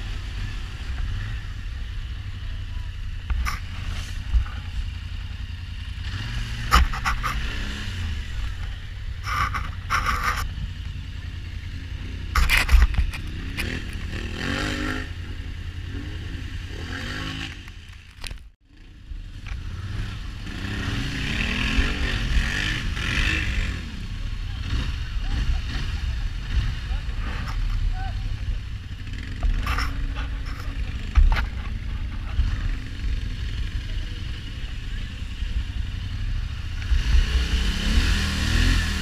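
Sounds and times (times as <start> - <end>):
off-road vehicle engine revving: 0.0 - 18.0, 18.6 - 39.0
constant low rumble: 0.0 - 39.0.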